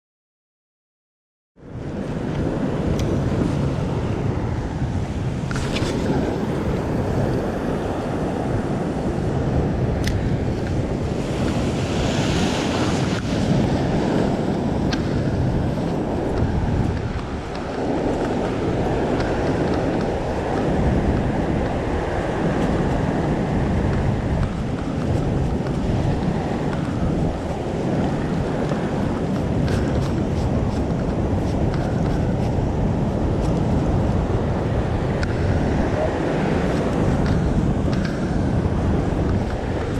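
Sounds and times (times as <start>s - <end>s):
wind buffeting microphone: 1.6s - 39.9s
surf washing against rock: 1.9s - 39.9s.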